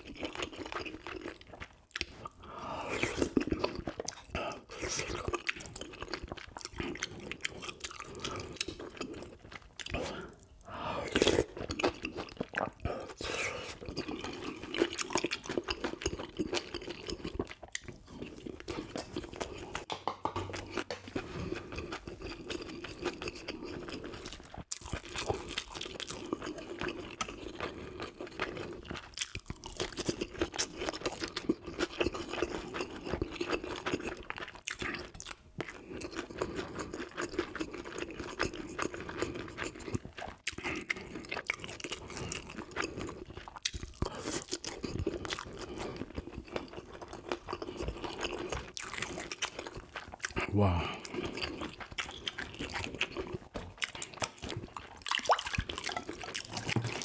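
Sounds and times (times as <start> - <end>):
close chewing with crunching: 0.0 - 57.0.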